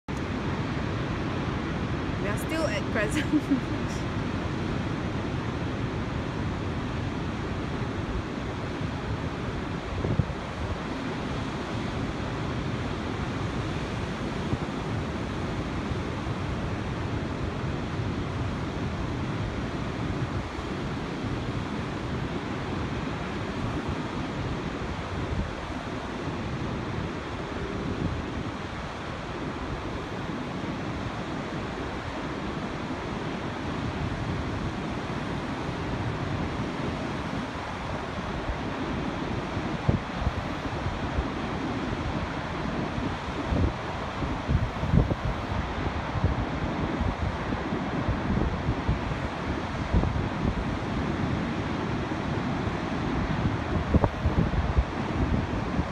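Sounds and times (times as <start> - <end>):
wind buffeting the microphone: 0.2 - 55.9.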